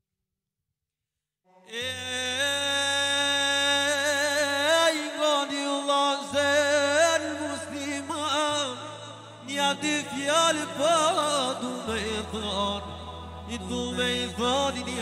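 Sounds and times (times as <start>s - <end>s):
man singing into a microphone: 1.5s - 15.0s.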